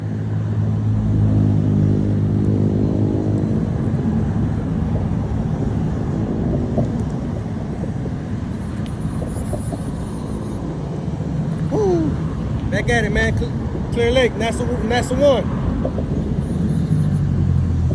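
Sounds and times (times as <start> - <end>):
outdoor background noise: 0.0 - 17.9
vehicle engine humming: 0.0 - 17.9.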